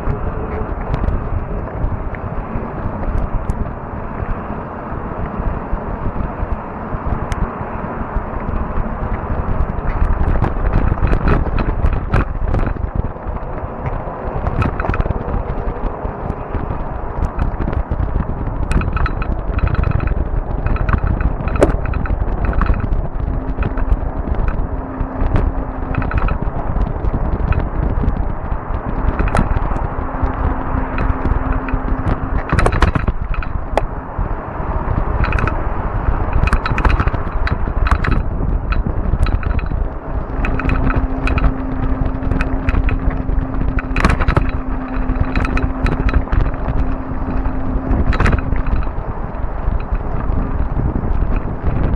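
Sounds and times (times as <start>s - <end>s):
bike rattling over bumps: 0.0s - 51.9s
faint steady hum: 0.0s - 51.9s
wind rushing on microphone: 0.0s - 51.9s
tyre rumble: 5.4s - 51.9s.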